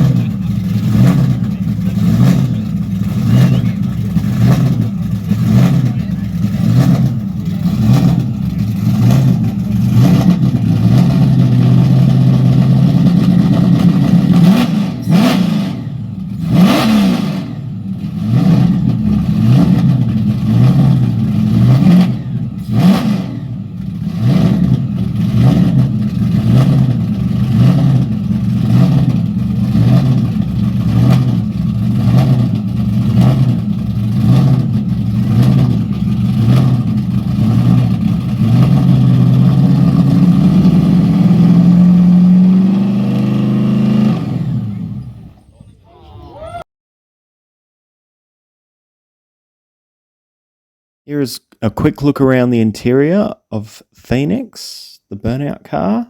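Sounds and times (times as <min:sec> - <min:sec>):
car engine revving: 0:00.0 - 0:46.5.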